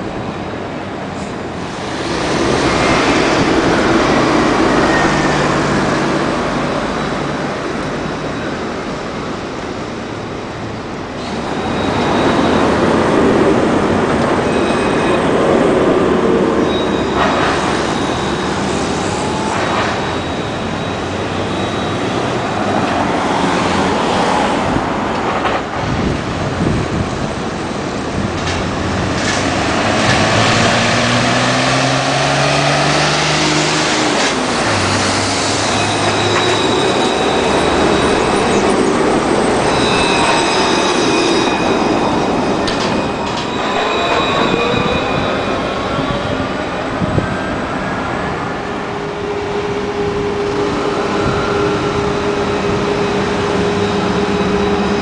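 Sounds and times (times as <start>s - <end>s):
city traffic: 0.0s - 55.0s
trams rolling on track: 0.0s - 55.0s.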